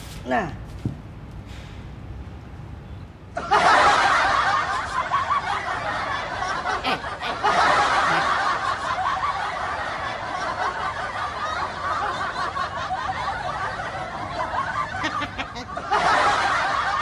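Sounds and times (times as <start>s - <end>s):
loud laughter: 3.4s - 17.0s.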